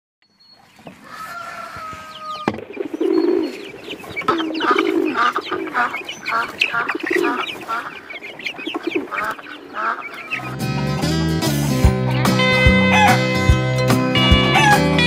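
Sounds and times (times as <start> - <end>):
chickens clucking: 0.5 - 15.0.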